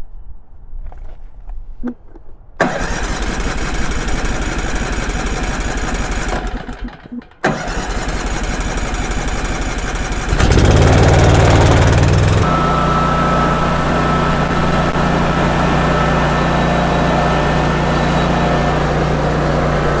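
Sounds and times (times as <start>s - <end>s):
small gasoline engine running: 2.6s - 20.0s.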